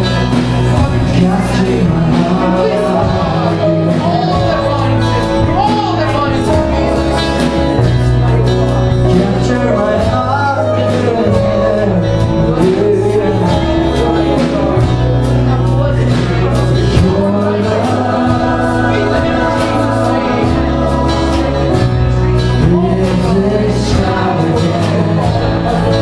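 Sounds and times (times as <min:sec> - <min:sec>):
person singing: 0:00.0 - 0:26.0
steady drum beat: 0:00.0 - 0:26.0
sustained bass notes: 0:00.0 - 0:26.0.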